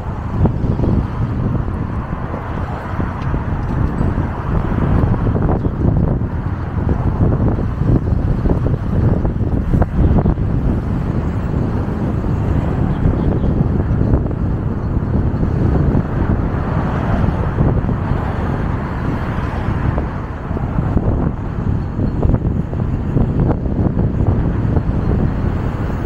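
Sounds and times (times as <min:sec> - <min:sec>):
city street traffic: 0:00.0 - 0:26.0
wind rumbling on microphone: 0:00.0 - 0:26.0.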